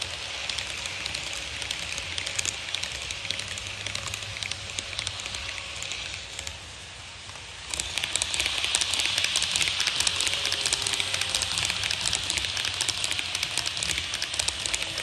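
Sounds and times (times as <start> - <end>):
model train wheels clicking: 0.0 - 15.0
steady hiss: 0.0 - 15.0.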